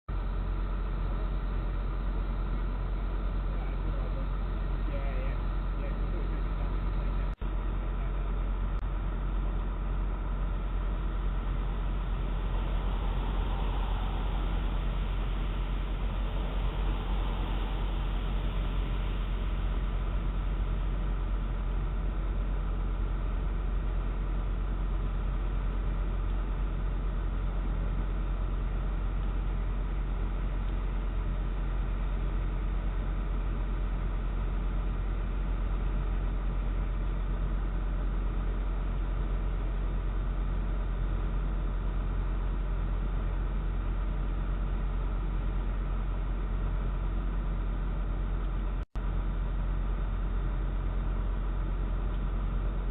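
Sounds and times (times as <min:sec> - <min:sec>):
low hum and hiss: 0:00.1 - 0:52.9.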